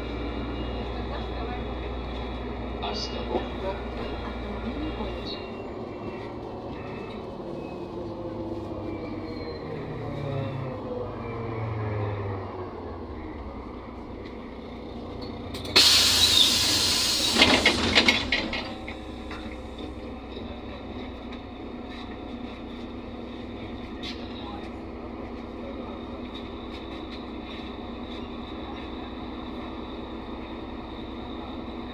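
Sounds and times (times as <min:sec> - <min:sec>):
bus diesel engine running: 0:00.0 - 0:31.9.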